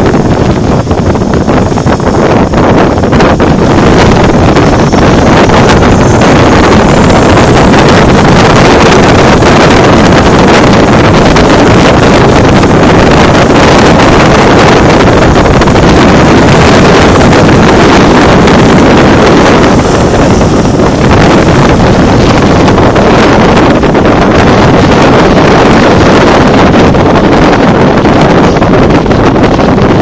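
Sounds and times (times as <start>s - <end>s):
turboprop engines running: 0.0s - 30.0s
wind buffeting the microphone: 0.0s - 30.0s.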